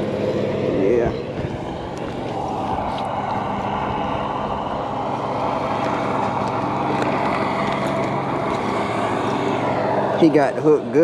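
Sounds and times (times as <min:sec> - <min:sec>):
motor humming steadily: 0:00.0 - 0:11.0.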